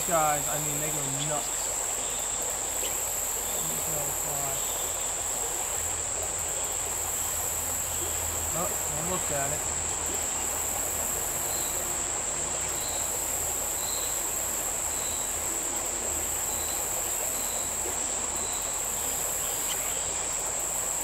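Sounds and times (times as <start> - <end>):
insect chorus drone: 0.0 - 21.0
small stream rushing: 0.0 - 21.0.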